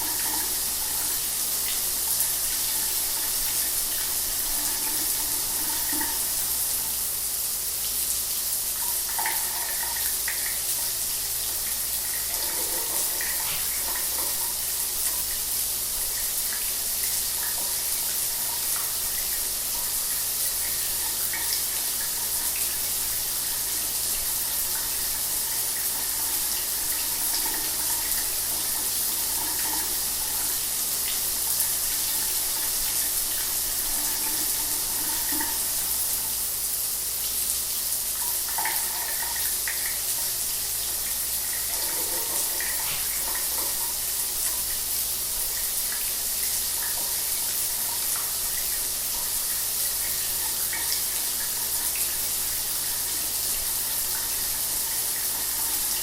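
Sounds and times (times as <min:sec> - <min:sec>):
shower water spraying: 0:00.0 - 0:56.0.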